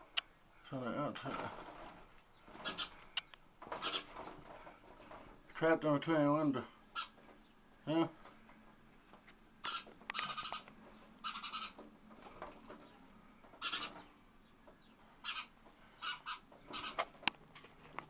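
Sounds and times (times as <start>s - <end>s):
small bird harsh calls: 1.0s - 5.5s, 6.5s - 17.2s.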